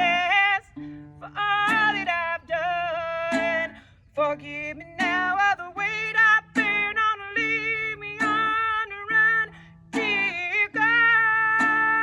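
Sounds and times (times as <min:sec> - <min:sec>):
guitar accompaniment: 0:00.0 - 0:12.0
woman singing folk song: 0:00.0 - 0:12.0.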